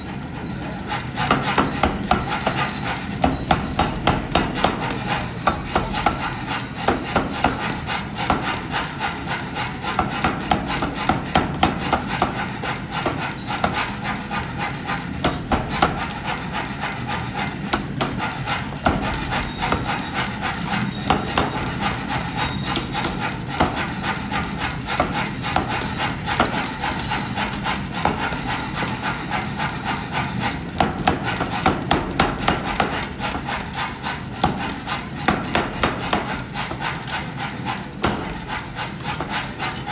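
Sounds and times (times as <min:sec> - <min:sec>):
hammer blows on hot steel: 0:00.1 - 0:39.9.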